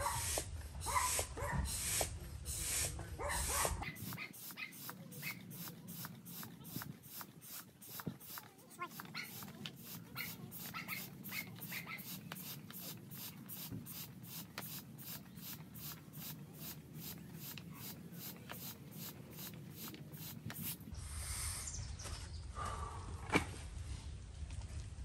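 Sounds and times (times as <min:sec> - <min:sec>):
hand pump air hisses: 0:00.0 - 0:21.8.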